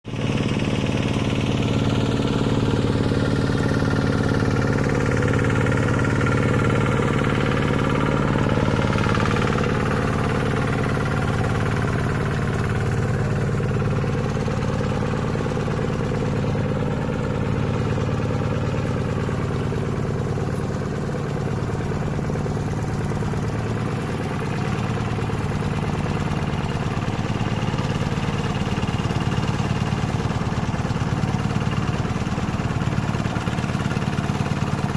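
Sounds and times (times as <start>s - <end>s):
hand tractor engine running: 0.1s - 34.9s.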